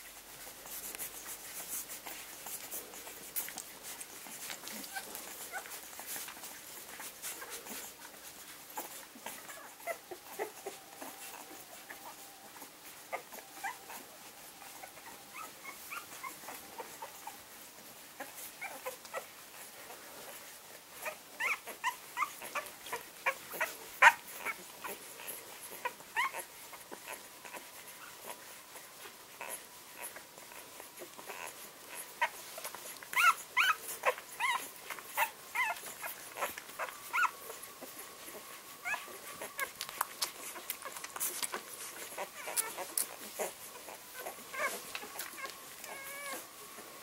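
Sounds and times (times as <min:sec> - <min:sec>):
puppies squeaking and whimpering: 0:00.2 - 0:47.0.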